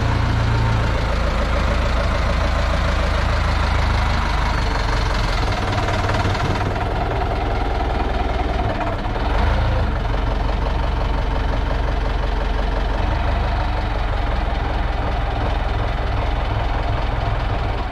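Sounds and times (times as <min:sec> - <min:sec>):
forklift diesel engine running: 0:00.0 - 0:17.9.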